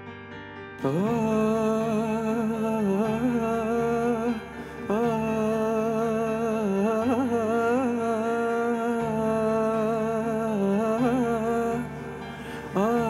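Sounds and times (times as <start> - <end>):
low musical backing: 0.0 - 13.0
person singing sustained notes: 0.8 - 13.0.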